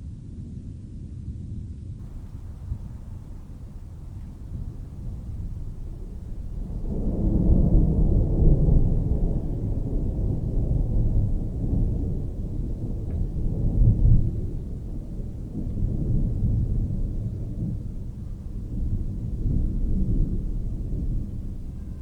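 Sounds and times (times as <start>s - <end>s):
distant thunder rumbling: 2.0s - 22.0s
faint thunder crackle: 2.0s - 22.0s.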